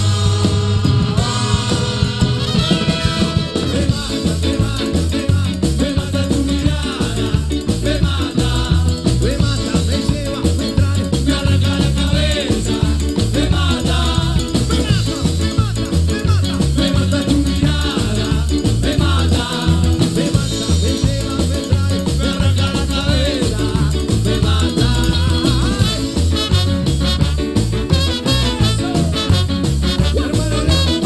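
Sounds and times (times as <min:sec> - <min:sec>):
person singing into microphone: 0:00.0 - 0:26.4, 0:28.3 - 0:29.4
live band playing: 0:00.0 - 0:31.0
steady bass beat: 0:00.0 - 0:31.0.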